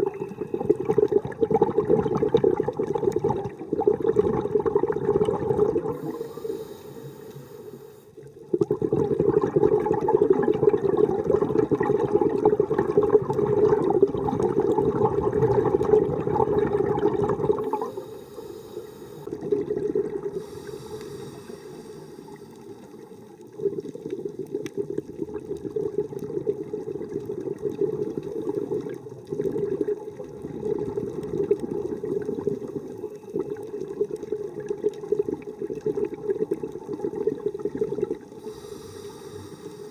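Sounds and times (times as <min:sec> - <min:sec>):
underwater rushing and bubbling: 0:00.0 - 0:39.9.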